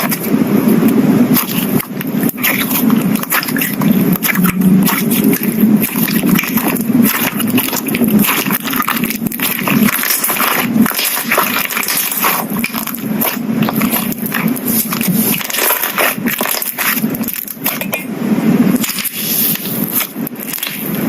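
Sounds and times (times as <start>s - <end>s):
slime squished by hand: 1.3s - 18.1s, 18.7s - 21.0s.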